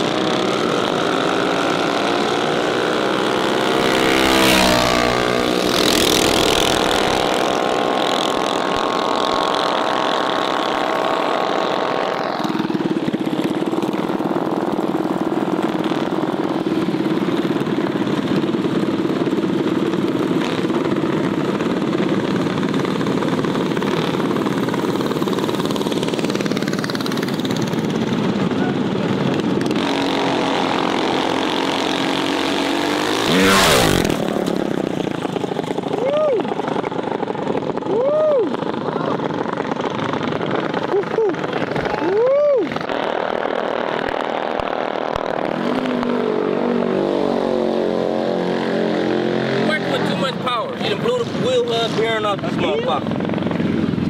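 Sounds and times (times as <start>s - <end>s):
mini bike engines revving: 0.0s - 54.0s.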